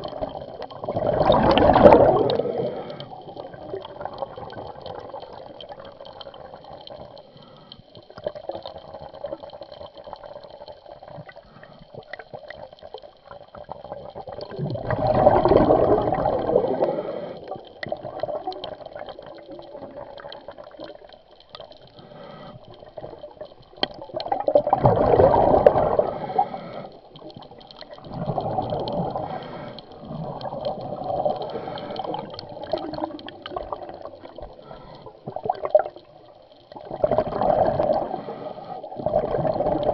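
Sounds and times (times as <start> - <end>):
underwater exhaled bubbles: 0.0 - 39.9.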